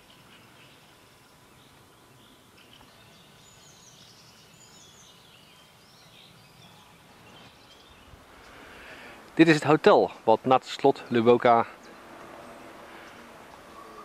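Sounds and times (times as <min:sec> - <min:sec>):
songbirds chirping and warbling: 0:00.0 - 0:14.0.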